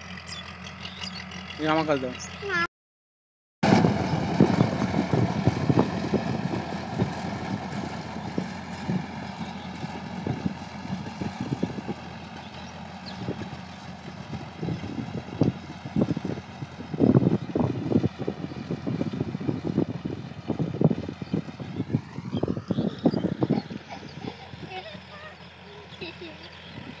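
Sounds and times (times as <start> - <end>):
tractor diesel engine under load: 0.0 - 2.7, 3.6 - 27.0.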